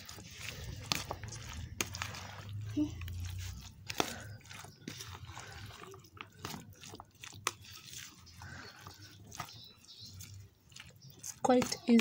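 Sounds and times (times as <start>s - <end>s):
wet squishing of salsa: 0.0s - 12.0s.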